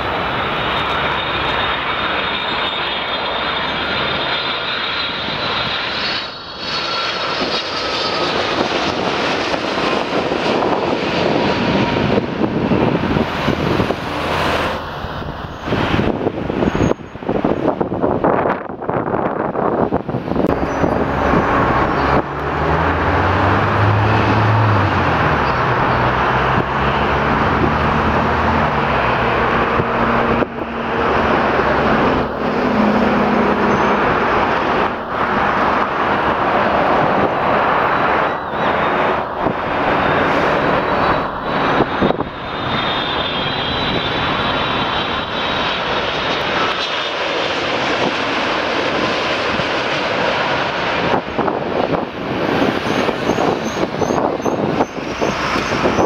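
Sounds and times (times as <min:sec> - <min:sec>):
low drone: 0:00.0 - 0:17.3, 0:20.0 - 0:56.0
high engine whine: 0:00.0 - 0:56.0
jet engines roaring: 0:00.0 - 0:56.0.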